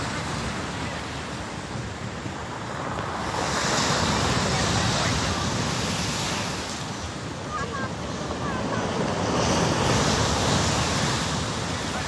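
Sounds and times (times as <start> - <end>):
surf breaking on a stony beach: 0.0 - 12.0.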